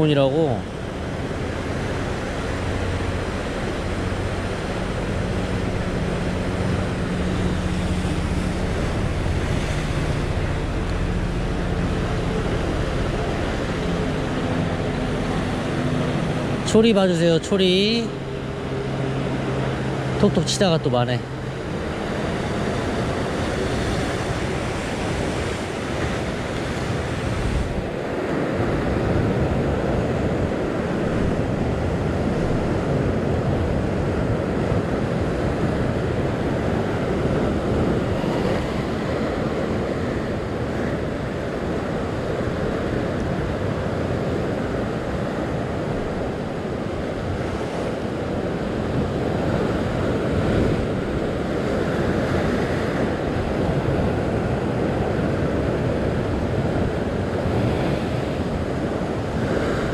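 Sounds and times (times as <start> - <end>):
wind buffeting microphone: 0.0 - 16.7, 21.3 - 59.9.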